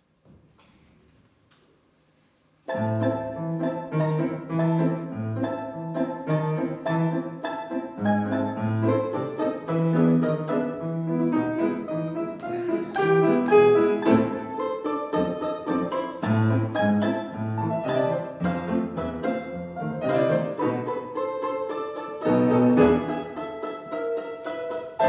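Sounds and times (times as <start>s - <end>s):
plucked string instrument: 2.6s - 25.0s
jazz piano: 2.7s - 25.0s.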